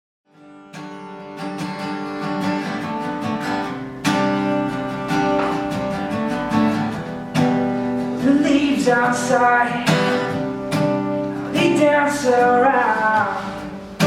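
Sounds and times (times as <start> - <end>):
acoustic guitar picking: 0.3 - 14.0
guitar chord strummed: 0.4 - 14.0.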